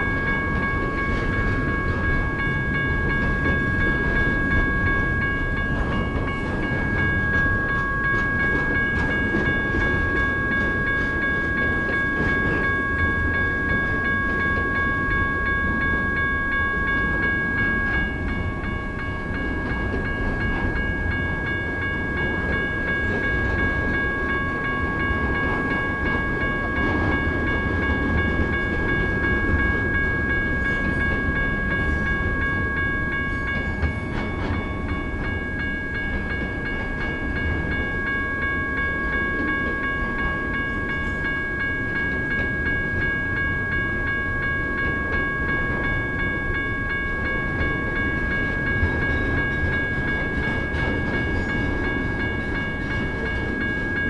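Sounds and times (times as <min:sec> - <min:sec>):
crossing bells ringing: 0:00.0 - 0:54.0
train wheels rumbling on rails: 0:00.0 - 0:54.0.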